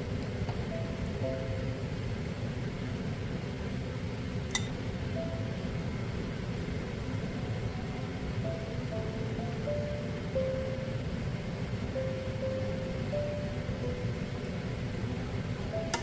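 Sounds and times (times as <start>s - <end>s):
low rumbling noise: 0.0s - 16.0s
soft background music: 0.0s - 16.0s.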